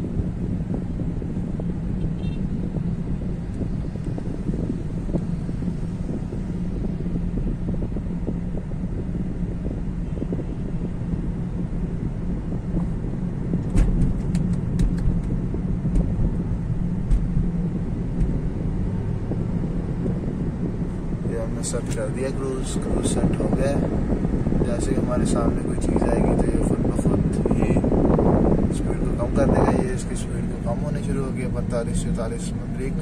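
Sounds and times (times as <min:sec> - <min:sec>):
low hum: 0:00.0 - 0:33.0
road and tyre rumble in car: 0:00.0 - 0:33.0.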